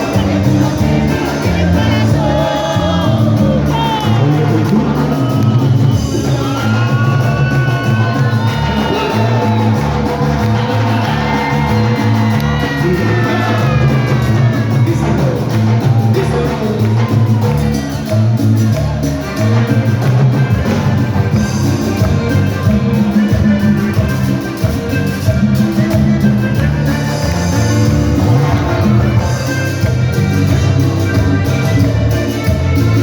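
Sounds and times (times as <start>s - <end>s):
crowd shouting and singing: 0.0s - 33.0s
live band music: 0.0s - 33.0s.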